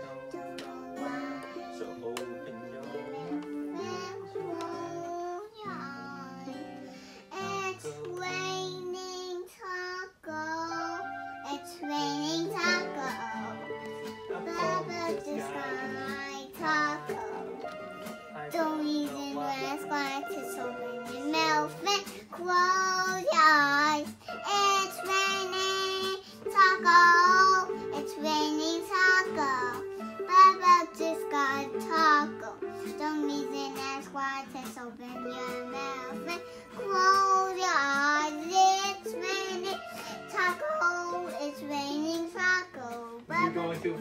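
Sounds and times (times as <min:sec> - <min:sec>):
small child singing: 0:00.0 - 0:44.0.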